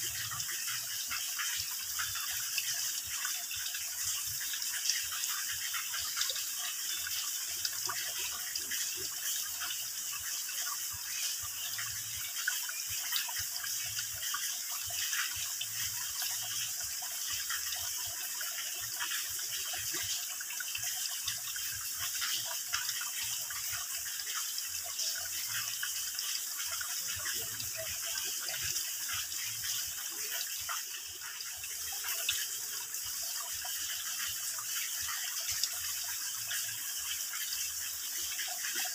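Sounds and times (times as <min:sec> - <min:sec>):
water dripping into a pool: 0:00.0 - 0:38.9.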